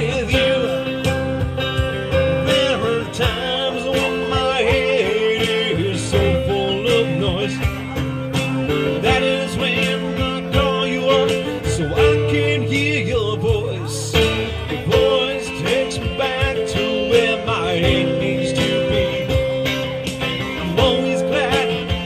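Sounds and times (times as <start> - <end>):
guitar accompaniment: 0.0 - 22.0
person singing: 0.0 - 22.0.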